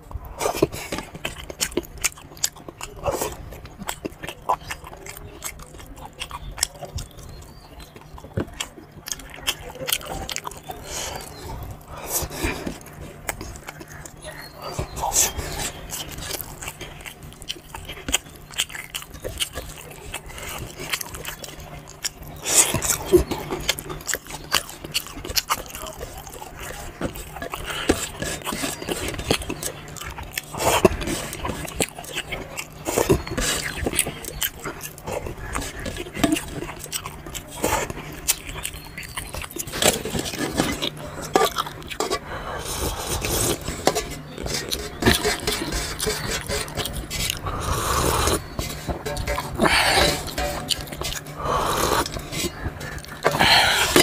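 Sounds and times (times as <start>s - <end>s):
wet chewing and lip-smacking: 0.1s - 54.0s.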